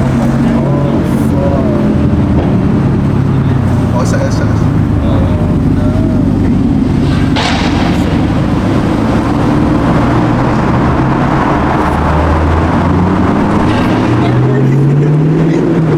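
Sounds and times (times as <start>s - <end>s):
car engines rumbling: 0.0s - 15.9s.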